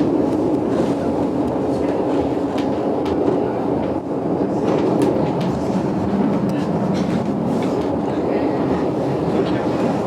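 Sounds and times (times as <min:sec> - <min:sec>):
train rumble from inside carriage: 0:00.0 - 0:10.0.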